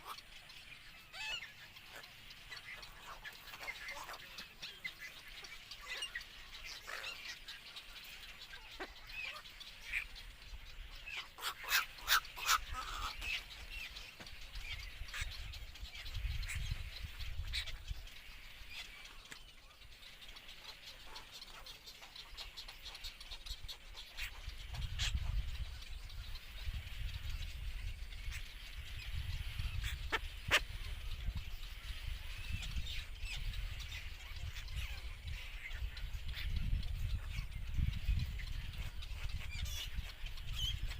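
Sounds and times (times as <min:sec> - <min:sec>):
birds giving sharp calls: 0:00.0 - 0:40.9.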